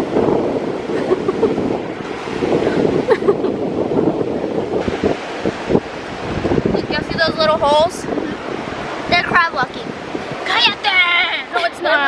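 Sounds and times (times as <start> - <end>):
surf washing: 0.0 - 12.0
wind buffeting microphone: 0.0 - 12.0.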